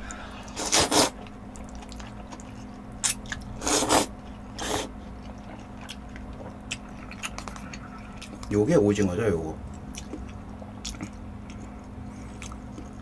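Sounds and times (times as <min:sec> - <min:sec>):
person chewing: 0:00.1 - 0:08.5, 0:09.7 - 0:13.0.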